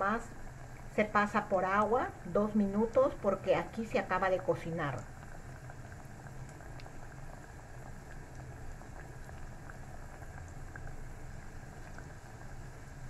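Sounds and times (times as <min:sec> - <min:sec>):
deep-frying sizzle in oil: 0:00.0 - 0:13.0.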